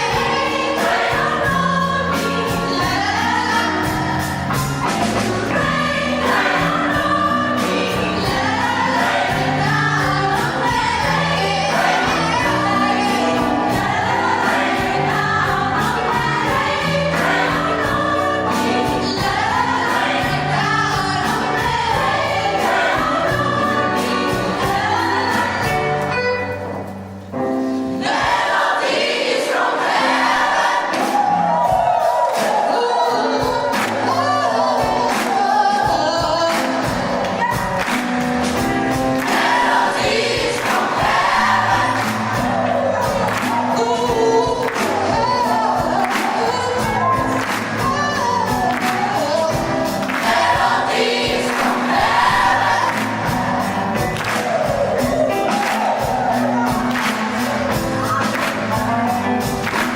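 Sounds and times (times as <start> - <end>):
steady percussion beat: 0.0 - 26.0, 34.8 - 59.9
choir singing: 0.0 - 26.7, 27.8 - 58.8.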